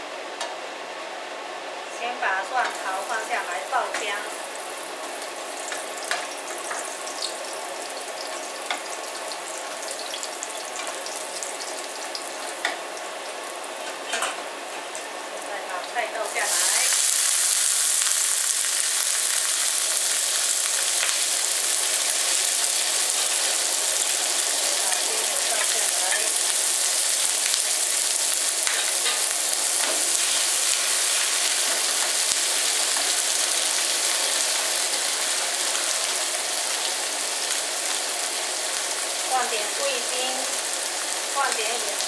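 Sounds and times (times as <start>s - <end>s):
food sizzling in hot oil: 2.2s - 42.0s.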